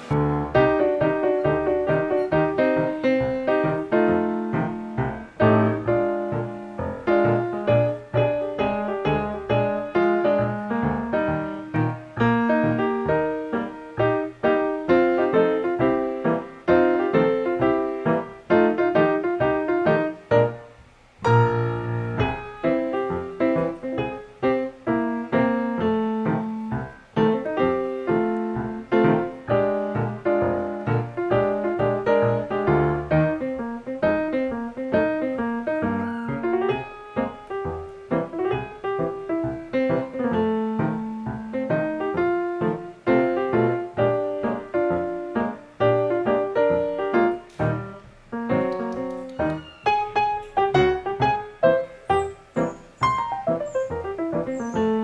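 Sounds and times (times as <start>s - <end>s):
piano single notes: 0.0s - 55.0s.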